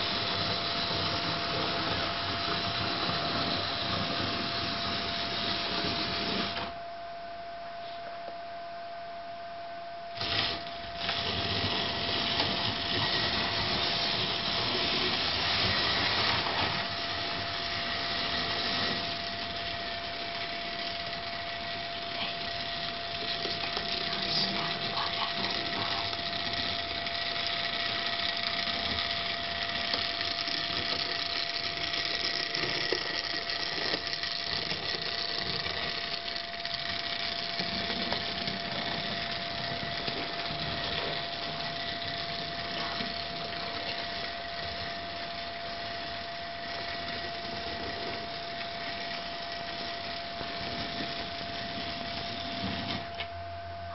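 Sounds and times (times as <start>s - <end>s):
model train whirr and rattle: 0.0s - 6.8s, 10.1s - 53.9s
constant high hum: 0.0s - 53.9s.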